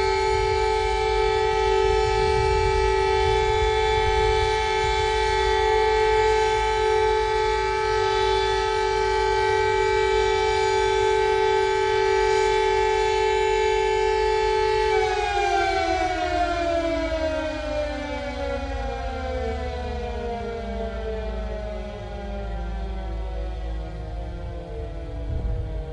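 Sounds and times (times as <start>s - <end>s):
emergency siren winding down: 0.0s - 25.9s.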